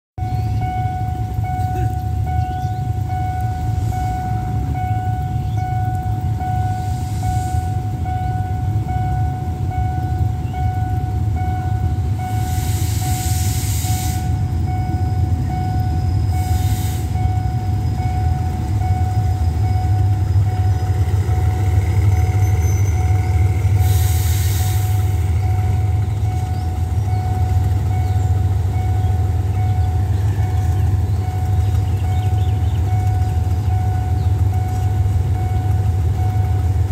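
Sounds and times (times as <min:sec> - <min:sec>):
diesel locomotive rumble: 0:00.2 - 0:36.9.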